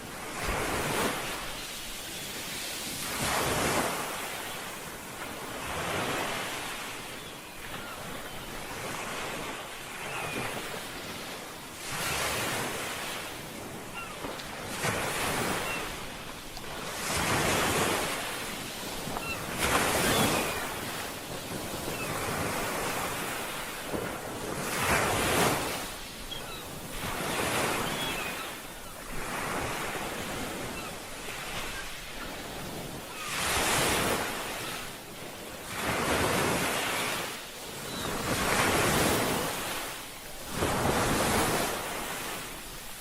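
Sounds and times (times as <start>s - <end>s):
ocean waves breaking: 0.0s - 43.0s
wind: 0.0s - 43.0s.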